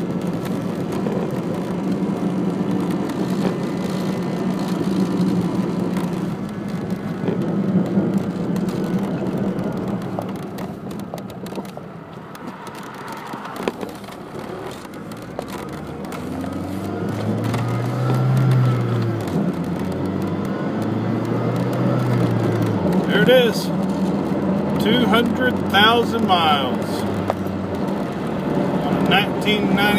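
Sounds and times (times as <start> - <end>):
car engine hum: 0.0 - 29.9
road noise: 0.0 - 29.9.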